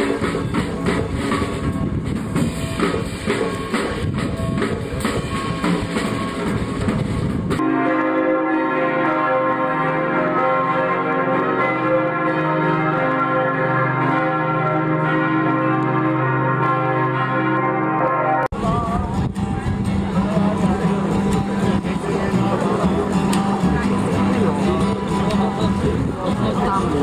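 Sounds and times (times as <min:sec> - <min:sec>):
church bells pealing: 0:00.0 - 0:19.2, 0:20.0 - 0:26.1
street noise: 0:00.0 - 0:27.0.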